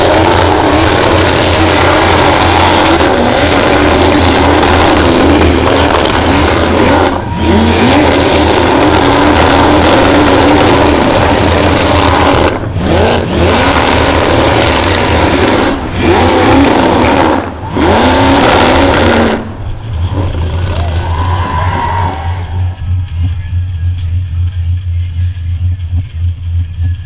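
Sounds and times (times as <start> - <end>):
car engine revving high: 0.0 - 23.8.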